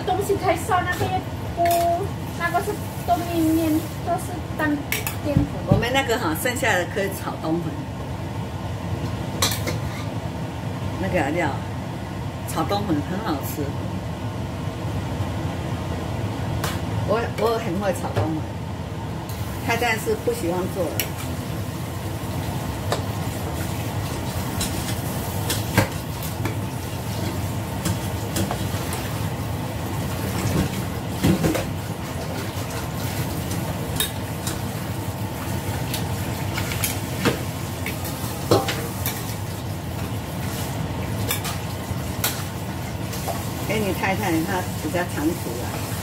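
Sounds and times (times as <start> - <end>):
frying sizzle: 0.0 - 7.4, 14.2 - 46.0.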